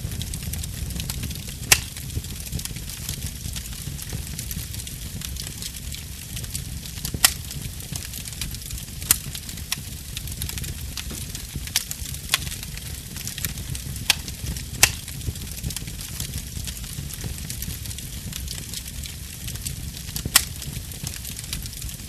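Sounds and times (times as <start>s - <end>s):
burning wood crackling: 0.0s - 22.0s
fire hiss and low rumble: 0.0s - 22.0s
sharp pops of fire: 0.0s - 22.0s.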